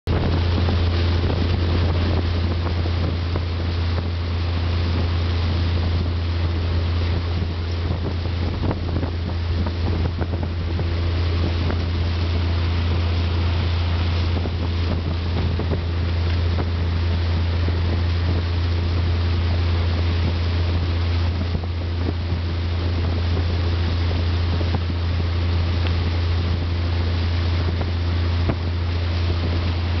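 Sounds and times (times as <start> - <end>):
rush of boat wake: 0.0 - 30.0
boat motor droning: 0.1 - 30.0
wind buffeting microphone: 0.1 - 30.0.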